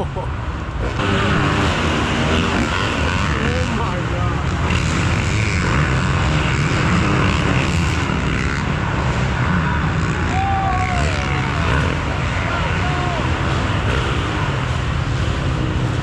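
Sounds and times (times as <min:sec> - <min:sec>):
dirt bike engines running: 0:00.0 - 0:16.0.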